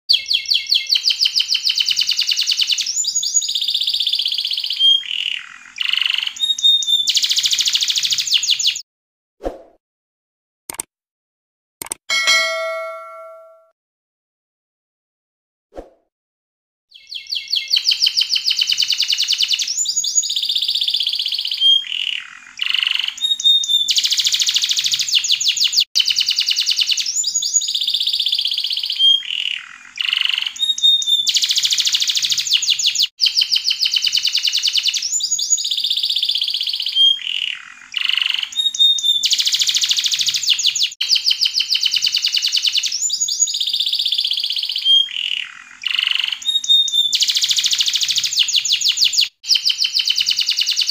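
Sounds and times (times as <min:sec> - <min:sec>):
canary singing trills: 0:00.1 - 0:08.8, 0:16.9 - 0:50.9.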